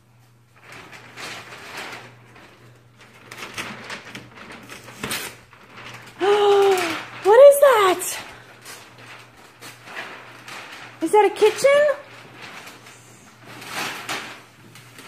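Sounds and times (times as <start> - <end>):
wrapping paper rustling and tearing: 0.0 - 15.0.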